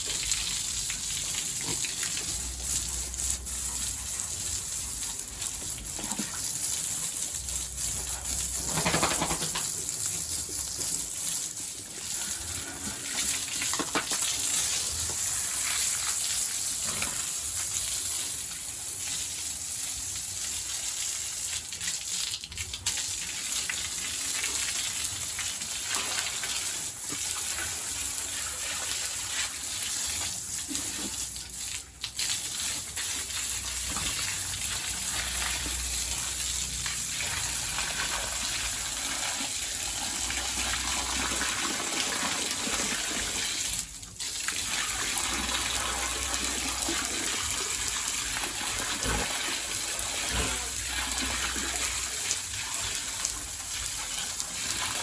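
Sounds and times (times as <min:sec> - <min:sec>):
water gushing: 0:00.0 - 0:55.0.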